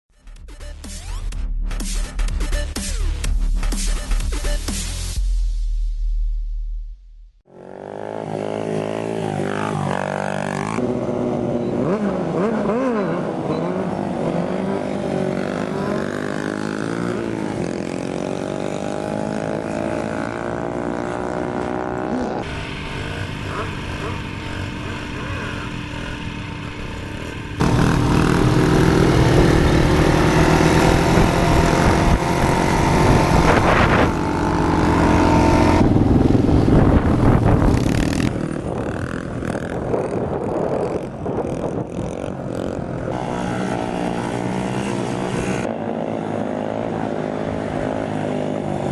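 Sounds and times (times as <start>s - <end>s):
pit bike engines revving: 7.5s - 48.9s.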